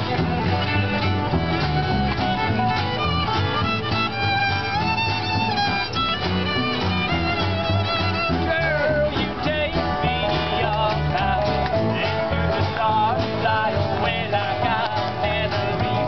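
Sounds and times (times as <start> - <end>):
fiddle melody: 0.0 - 16.0
plucked upright bass: 0.0 - 16.0
strummed acoustic guitars: 0.0 - 16.0.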